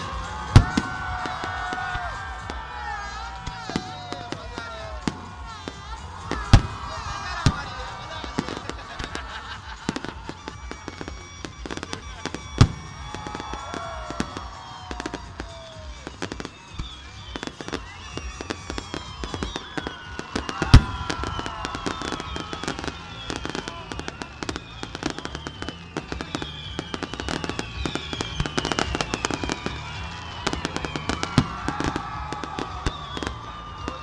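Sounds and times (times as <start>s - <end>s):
falling whistles: 0.0s - 34.0s
fireworks cracking and popping: 0.0s - 34.0s.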